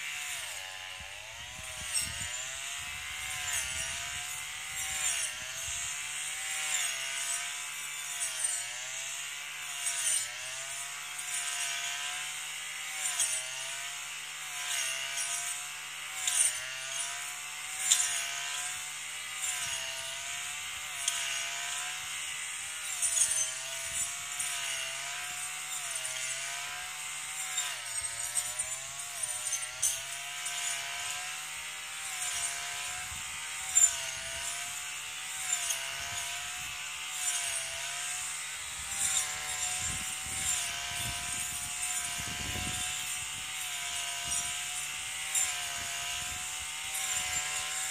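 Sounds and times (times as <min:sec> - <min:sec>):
brush cutter engine: 0:00.0 - 0:47.9.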